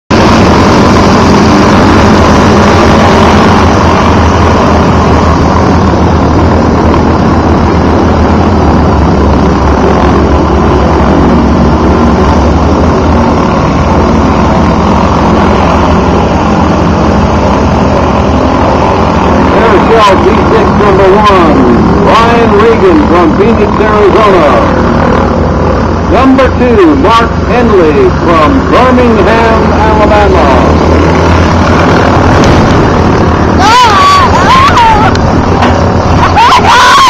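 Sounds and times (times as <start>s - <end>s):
propeller aircraft engines taxiing: 0.1s - 37.0s.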